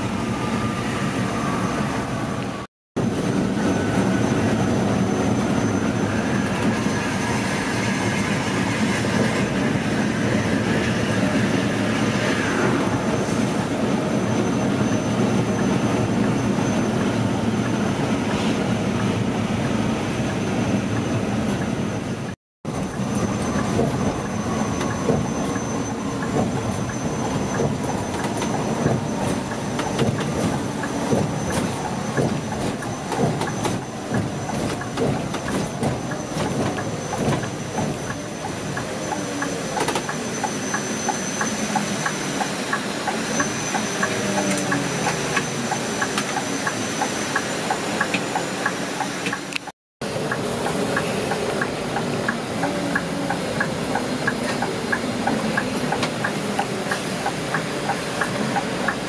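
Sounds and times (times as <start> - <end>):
coach engine and road noise: 0.0 - 59.0.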